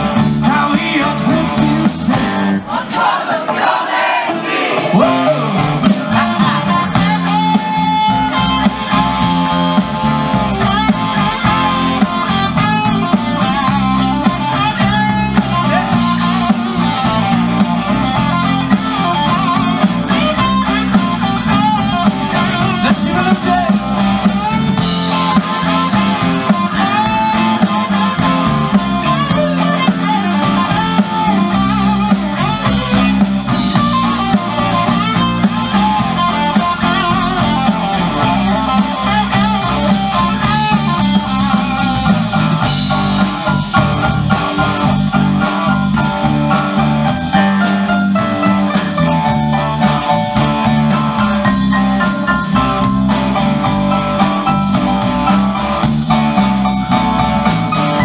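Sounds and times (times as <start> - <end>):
electric guitar: 0.0 - 2.8, 4.8 - 58.0
drum kit: 0.0 - 58.0.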